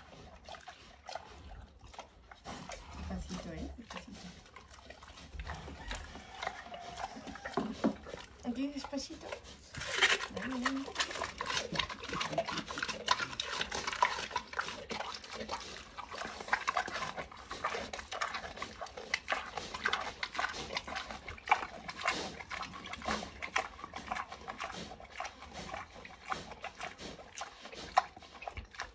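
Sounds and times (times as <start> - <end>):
pig chewing with wet smacking: 0.0 - 28.9.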